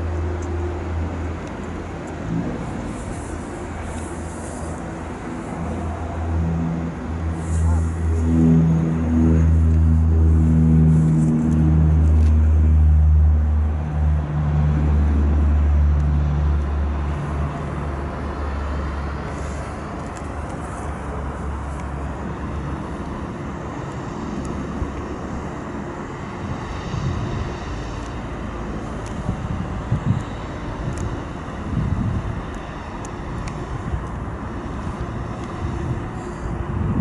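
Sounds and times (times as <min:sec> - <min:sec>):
turboprop aircraft propeller drone: 0:00.0 - 0:37.0.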